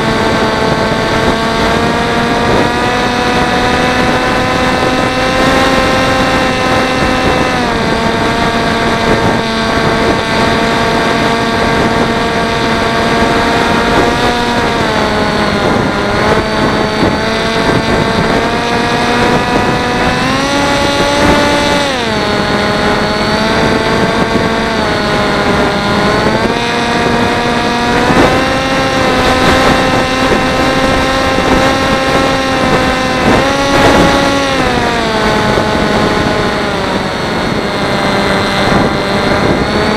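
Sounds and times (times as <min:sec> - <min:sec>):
electric motor and propeller whining: 0:00.0 - 0:39.9
wind noise: 0:00.0 - 0:39.9.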